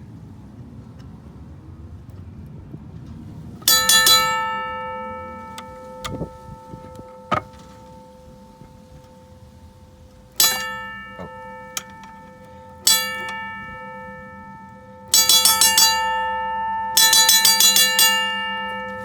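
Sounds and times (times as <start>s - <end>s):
railroad crossing bell clanging: 3.5s - 19.0s.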